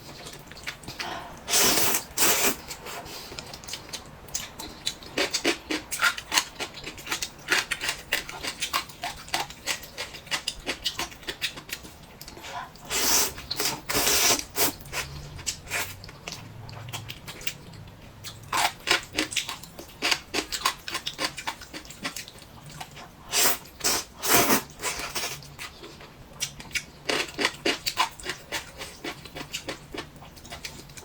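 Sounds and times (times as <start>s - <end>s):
person chewing and crunching: 0.0s - 31.0s.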